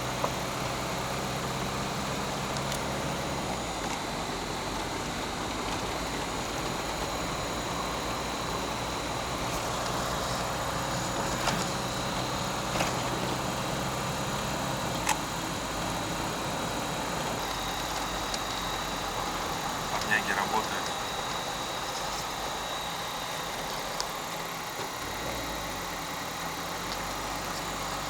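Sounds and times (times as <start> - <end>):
road noise: 0.0 - 25.4
car engine hum: 0.0 - 28.0.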